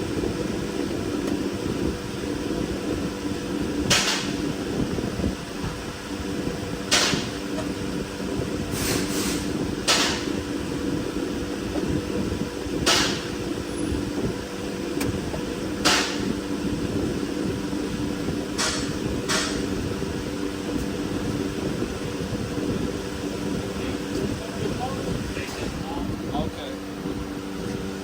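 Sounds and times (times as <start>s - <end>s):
fan-like mechanical hum: 0.0s - 28.0s.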